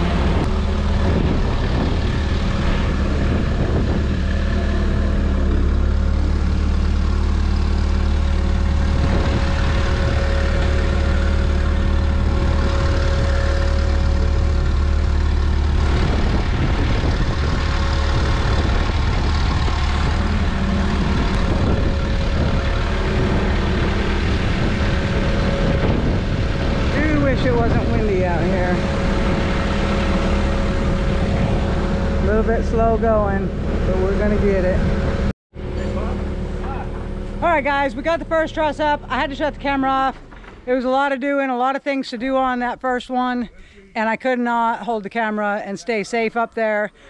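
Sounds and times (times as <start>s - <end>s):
steady whine: 0.0s - 40.8s
engine running steadily: 0.0s - 41.2s.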